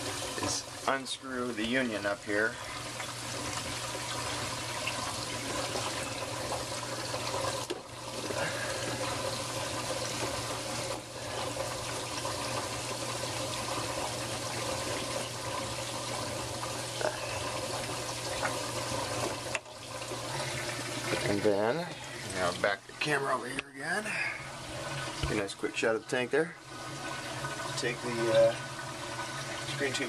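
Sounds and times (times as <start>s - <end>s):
water rushing through plumbing: 0.0s - 30.0s.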